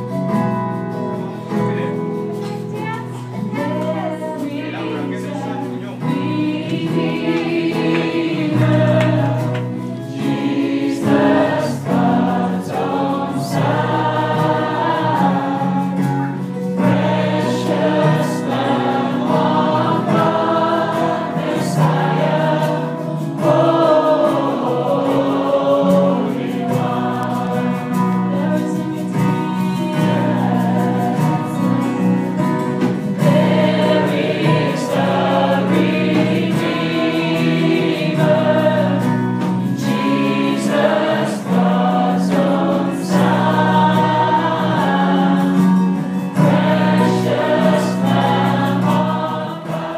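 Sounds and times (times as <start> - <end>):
choir singing gospel: 0.0 - 49.9
instrumental accompaniment with bass: 0.0 - 49.9.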